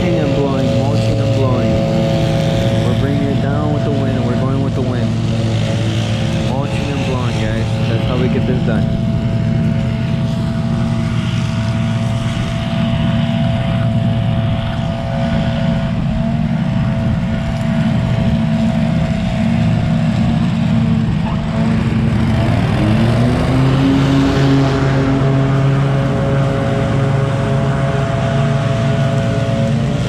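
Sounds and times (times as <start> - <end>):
engine revving up: 0.0 - 30.0
lawn mower engines running: 0.0 - 30.0.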